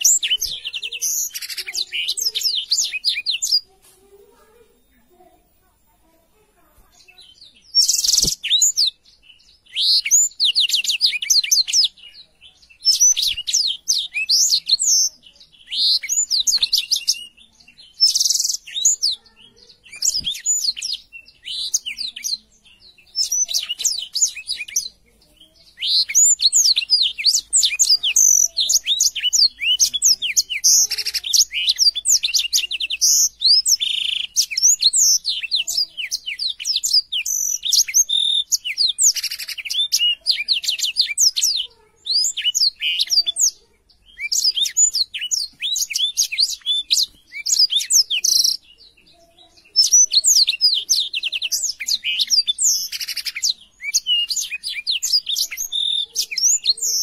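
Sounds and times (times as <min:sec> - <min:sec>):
bird singing high twittering: 0:00.0 - 0:57.0.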